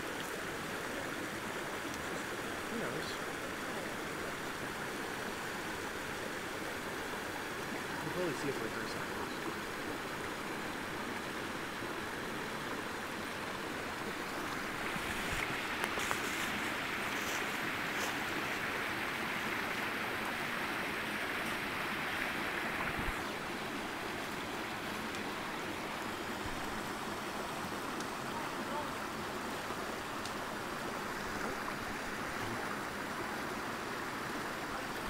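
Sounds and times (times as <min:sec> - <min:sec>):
creek rushing over boulders: 0:00.0 - 0:35.0.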